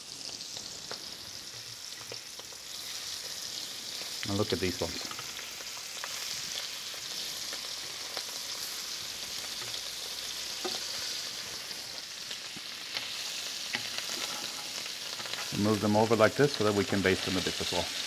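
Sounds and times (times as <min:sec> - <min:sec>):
scallops sizzling in a pan: 0:00.0 - 0:18.0.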